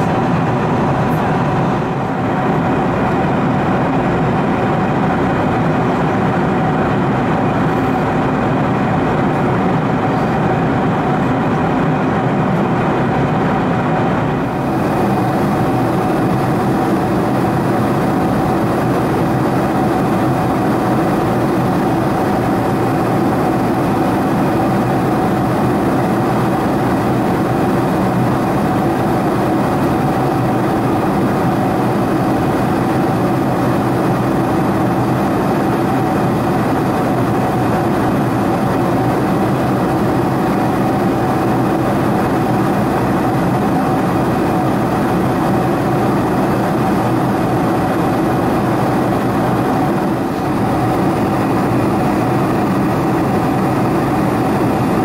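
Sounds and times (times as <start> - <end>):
airflow rushing over fuselage: 0.0 - 55.0
jet engines droning: 0.0 - 55.0
steady whine: 0.0 - 55.0.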